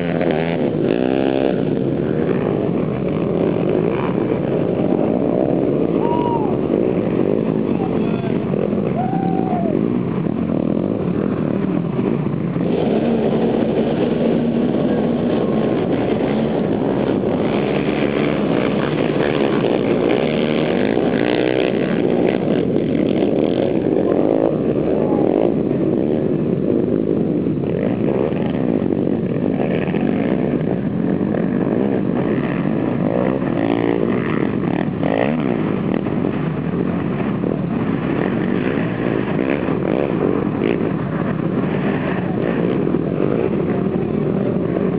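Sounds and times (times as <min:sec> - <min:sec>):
atv engines droning: 0:00.0 - 0:44.9
engine revving: 0:00.0 - 0:44.9.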